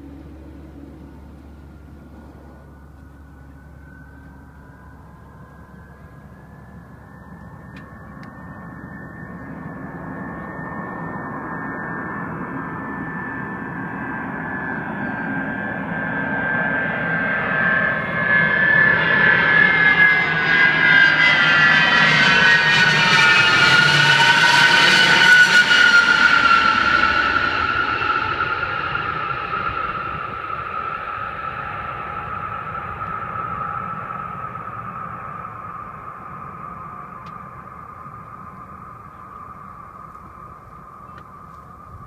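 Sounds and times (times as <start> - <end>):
jet engines whining and rumbling: 0.0 - 42.0.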